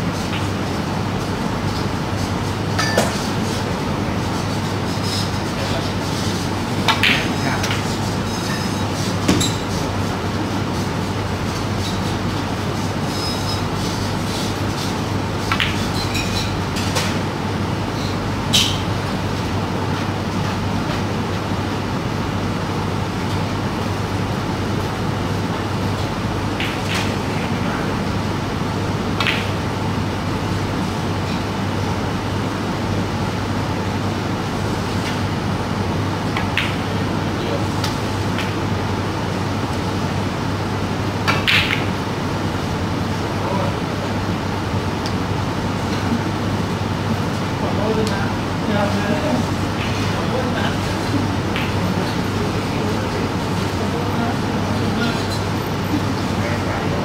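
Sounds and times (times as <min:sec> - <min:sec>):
rumbling room noise: 0:00.0 - 0:57.0.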